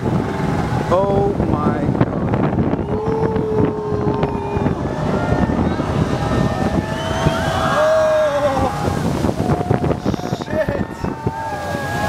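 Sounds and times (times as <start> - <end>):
breaking wave and churning water: 0.0 - 12.0
wind buffeting microphone: 0.0 - 12.0.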